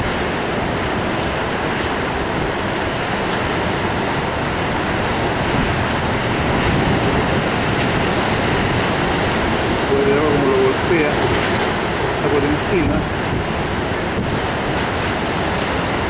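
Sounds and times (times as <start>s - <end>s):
storm surf breaking on rocks: 0.0s - 16.0s.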